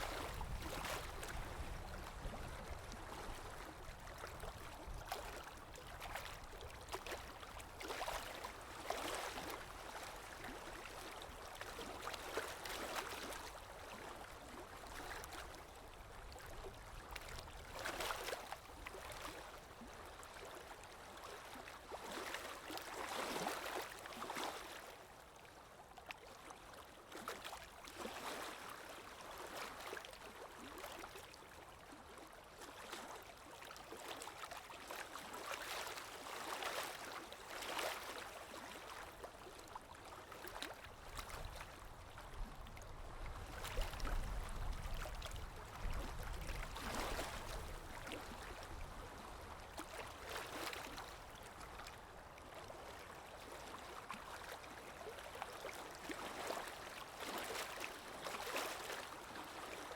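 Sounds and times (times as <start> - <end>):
water lapping: 0.0 - 25.0, 26.1 - 59.9
wind: 0.0 - 59.9.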